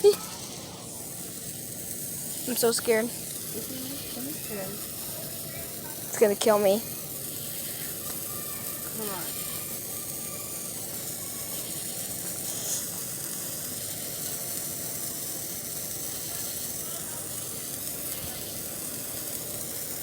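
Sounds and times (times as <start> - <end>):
sparkler fizzing and crackling: 0.0 - 20.0.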